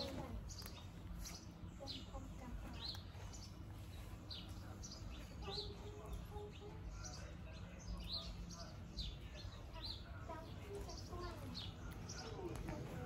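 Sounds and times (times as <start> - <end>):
bird chirping: 0.0 - 13.0
faint outdoor background: 0.0 - 13.0.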